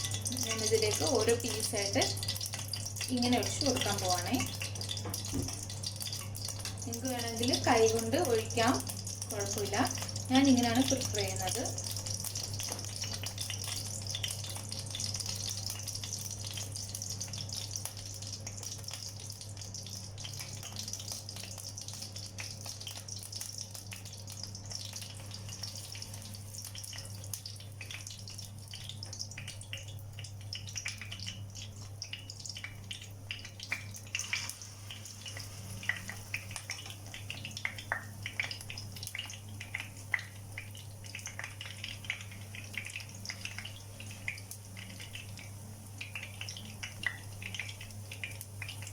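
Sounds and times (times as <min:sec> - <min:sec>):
batter sizzling in hot oil: 0:00.0 - 0:48.9.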